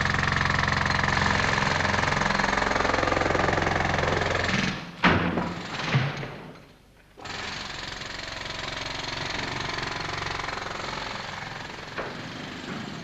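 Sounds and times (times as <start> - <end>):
pneumatic hammer chipping tiles: 0.0 - 6.4, 7.2 - 13.0.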